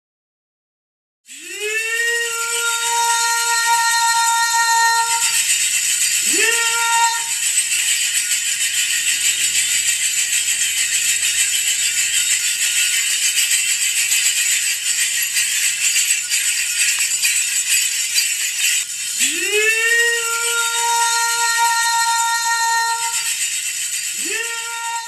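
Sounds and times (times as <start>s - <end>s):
metal bells jingling: 1.6s - 25.0s.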